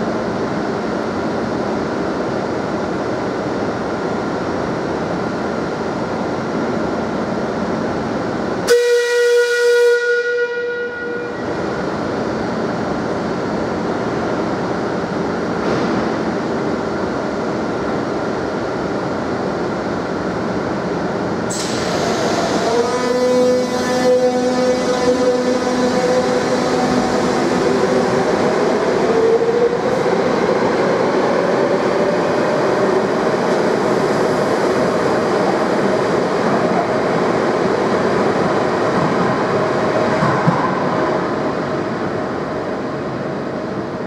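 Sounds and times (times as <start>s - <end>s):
train rumbling hum: 0.0s - 44.0s.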